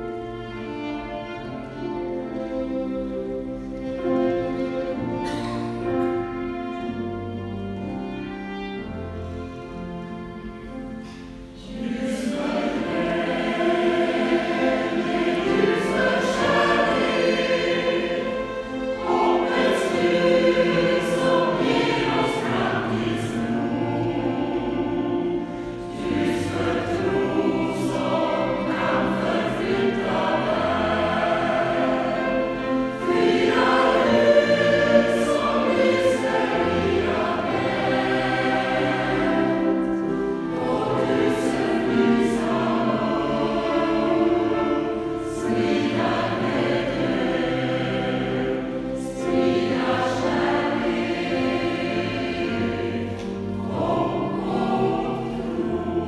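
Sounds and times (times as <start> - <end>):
church choir singing: 0.0 - 56.0
violin playing: 0.0 - 56.0.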